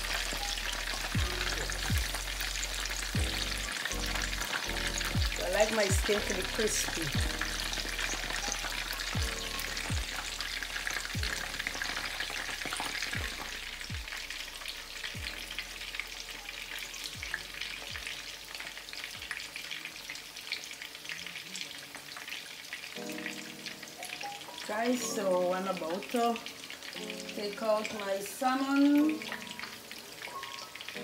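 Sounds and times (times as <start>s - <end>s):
fish sizzling in a pan: 0.0s - 31.0s.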